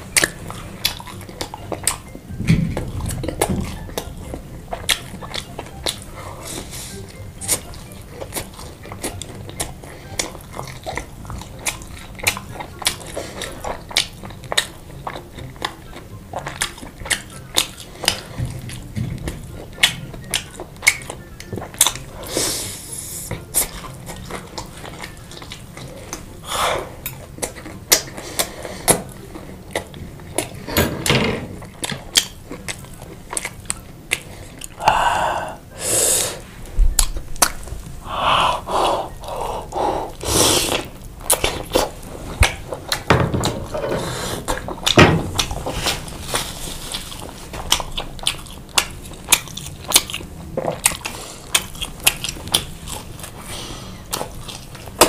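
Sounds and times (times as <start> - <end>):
noisy mouth sounds: 0.0 - 30.8, 31.4 - 43.1, 43.7 - 55.0
wet chewing and biting: 0.0 - 30.8, 31.5 - 35.8, 36.9 - 55.0.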